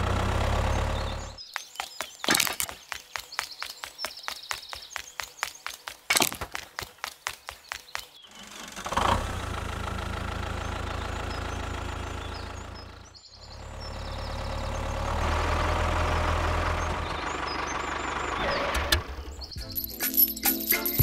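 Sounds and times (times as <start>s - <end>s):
tractor engine knocking drone: 0.0s - 2.2s, 2.8s - 19.6s.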